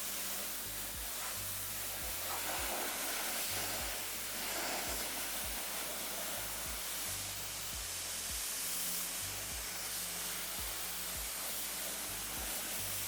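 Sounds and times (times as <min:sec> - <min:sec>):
hissing water spray: 0:00.0 - 0:13.0.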